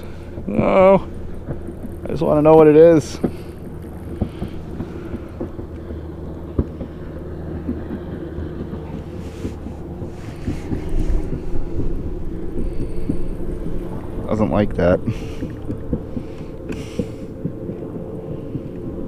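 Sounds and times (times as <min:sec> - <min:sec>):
boat motor humming: 0:00.0 - 0:19.0
wind on microphone: 0:03.0 - 0:19.0.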